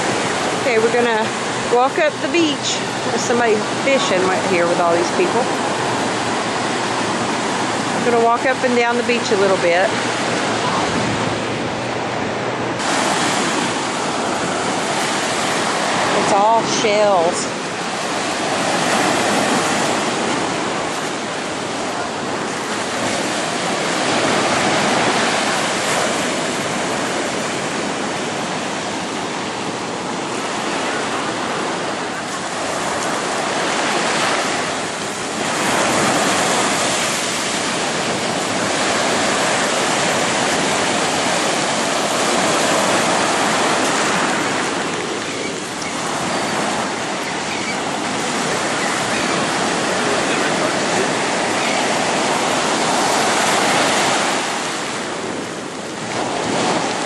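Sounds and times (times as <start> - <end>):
surf breaking on beach: 0.0 - 57.0.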